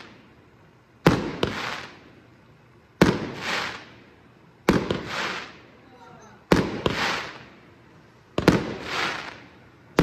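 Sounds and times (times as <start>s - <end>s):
firework shells bursting: 0.0s - 2.4s, 3.0s - 10.0s
firework hiss: 0.0s - 10.0s.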